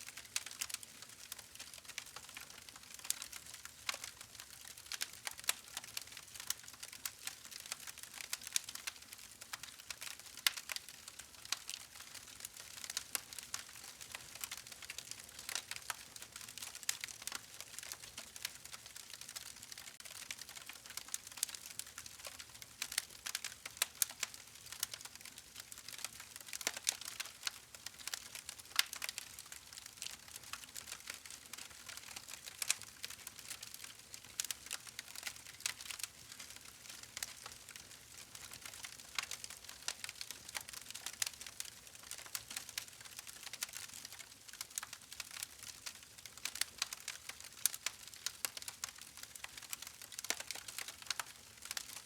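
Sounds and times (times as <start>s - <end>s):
wood fire crackling: 0.1s - 52.0s.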